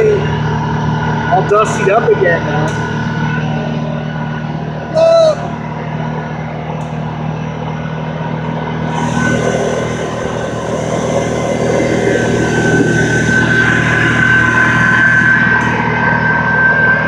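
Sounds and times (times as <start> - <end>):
engine running steadily: 0.0 - 17.0
rushing noise: 0.0 - 17.0.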